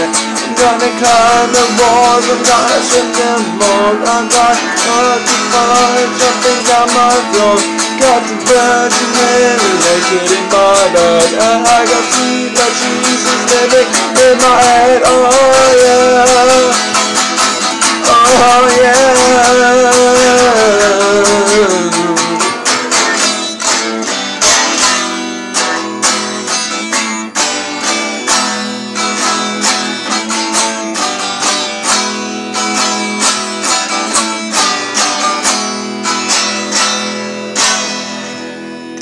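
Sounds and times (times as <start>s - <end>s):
guitar strumming: 0.0s - 39.0s.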